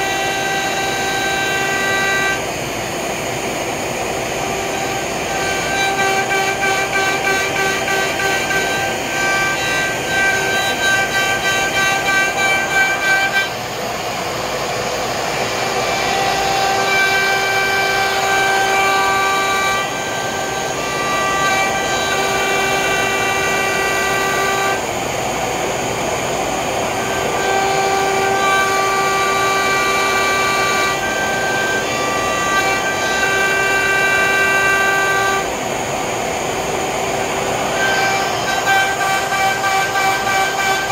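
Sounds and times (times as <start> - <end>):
router spindle cutting wood: 0.0 - 40.9
stepper motor whine: 0.0 - 40.9.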